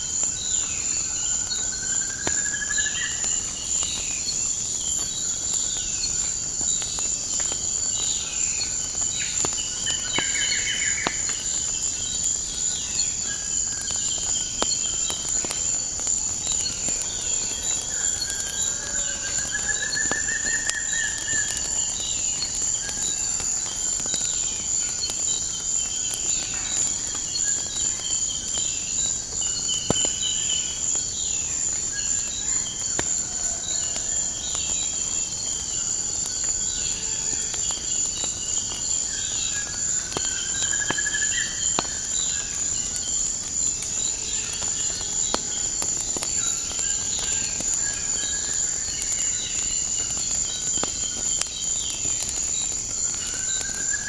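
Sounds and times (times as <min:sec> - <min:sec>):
crickets trilling: 0:00.0 - 0:54.0
wood fire crackling: 0:00.0 - 0:54.0.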